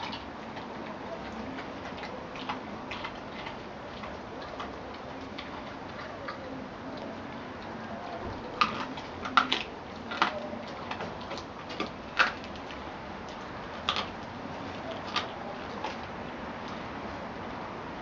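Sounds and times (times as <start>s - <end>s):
dog chewing bone crunching: 0.0s - 17.0s.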